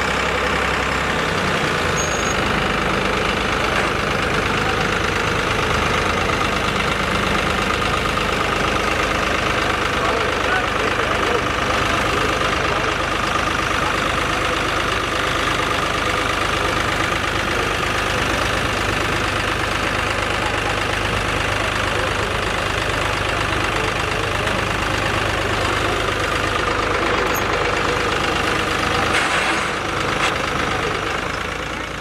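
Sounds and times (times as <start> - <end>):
tractor diesel engine idling: 0.0 - 32.0.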